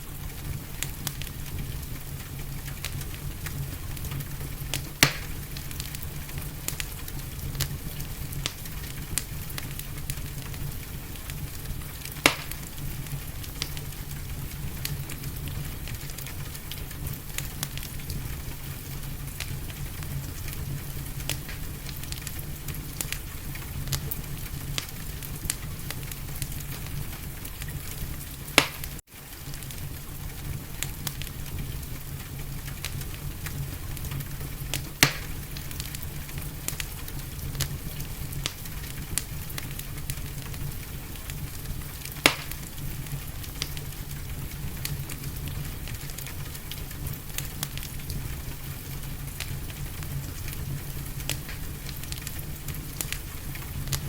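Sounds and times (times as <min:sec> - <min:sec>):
rain hiss: 0:00.0 - 0:54.0
wood fire crackling: 0:00.0 - 0:54.0.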